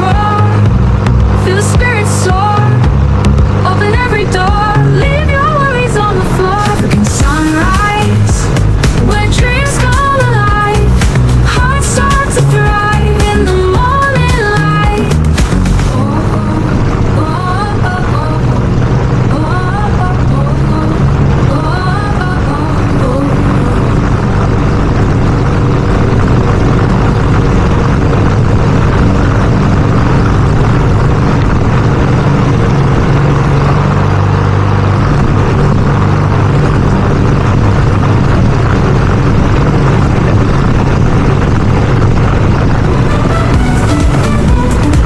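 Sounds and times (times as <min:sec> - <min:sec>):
small petrol engine running: 0:00.0 - 0:45.0.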